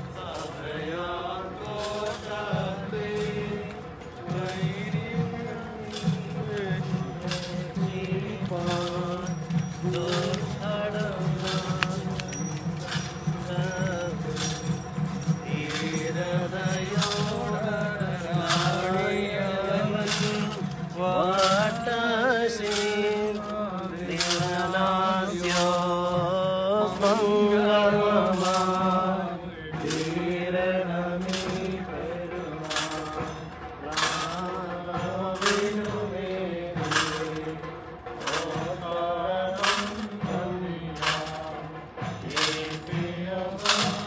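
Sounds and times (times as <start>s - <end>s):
men chanting a hymn: 0.0s - 44.0s
metallic clash or jingle: 1.7s - 44.0s.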